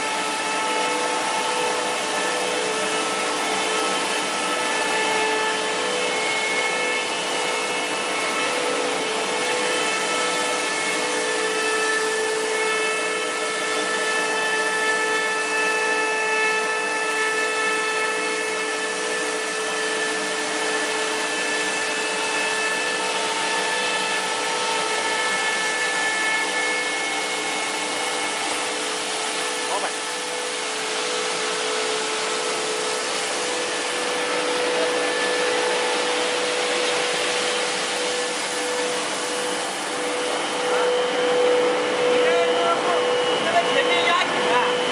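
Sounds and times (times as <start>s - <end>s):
mechanical hum of machinery: 0.0s - 44.9s
steady whining tones: 0.0s - 44.9s.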